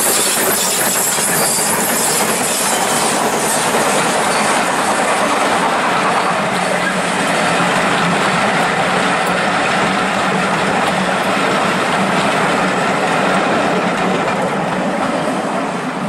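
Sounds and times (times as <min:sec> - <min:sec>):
train carriages rolling past: 0:00.0 - 0:16.0.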